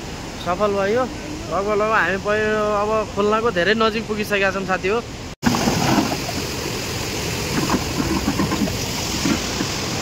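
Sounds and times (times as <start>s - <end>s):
river rushing: 0.0s - 10.0s.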